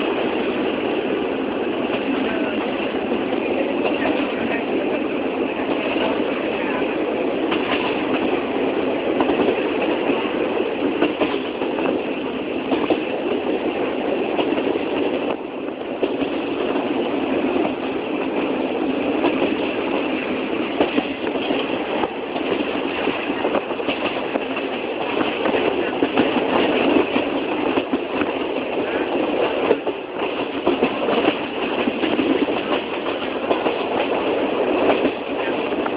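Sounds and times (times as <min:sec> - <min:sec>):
train rumbling along track: 0:00.0 - 0:35.9.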